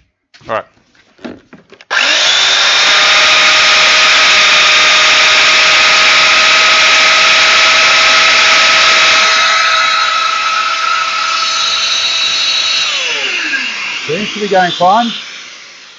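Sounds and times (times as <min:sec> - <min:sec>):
power tool motor whining: 0:01.9 - 0:15.9.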